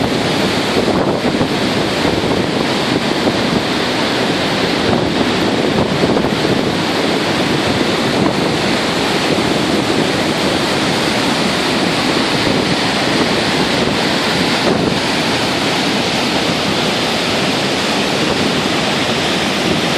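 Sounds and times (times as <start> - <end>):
waterfall roaring: 0.0 - 19.9
wind buffeting microphone: 0.0 - 19.9.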